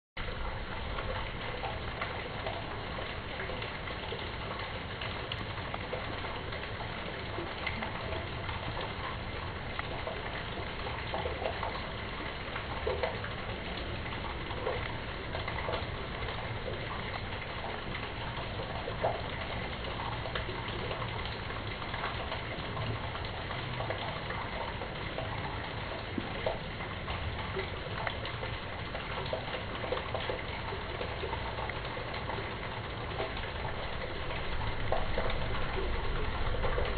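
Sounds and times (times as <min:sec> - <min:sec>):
water rushing through drain grate: 0:00.2 - 0:36.9
water splashes and drips: 0:00.2 - 0:36.9.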